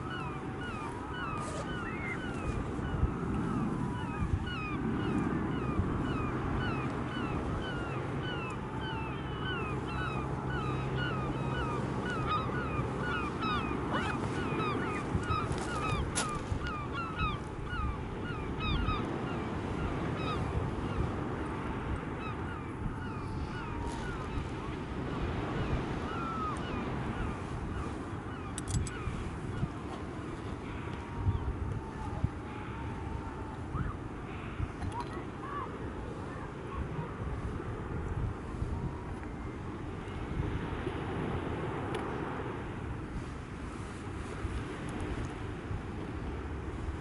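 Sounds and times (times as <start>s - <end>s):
gulls calling: 0.0s - 39.5s
wind: 0.0s - 47.0s.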